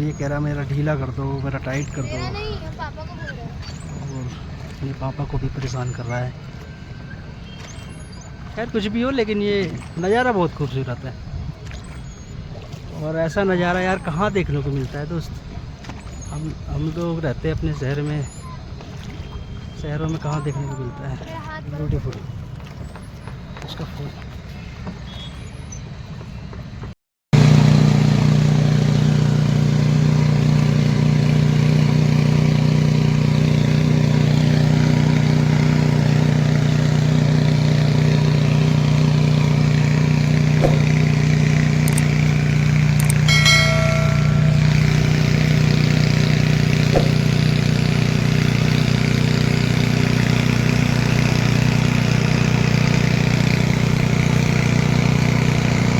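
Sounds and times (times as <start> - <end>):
engine running steadily: 0.0 - 25.3, 26.7 - 55.9.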